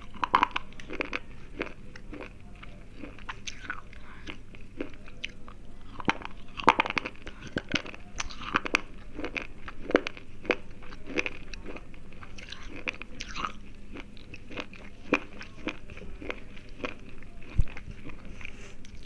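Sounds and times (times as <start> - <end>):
pencils being chewed: 0.0 - 19.0.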